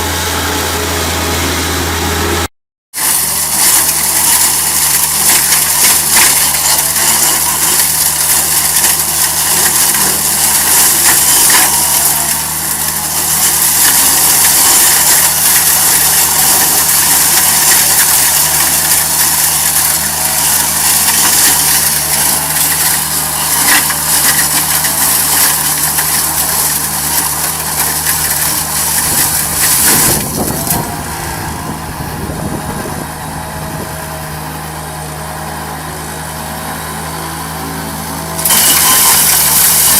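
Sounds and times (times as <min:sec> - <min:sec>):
machine engine humming: 0:03.2 - 0:39.9.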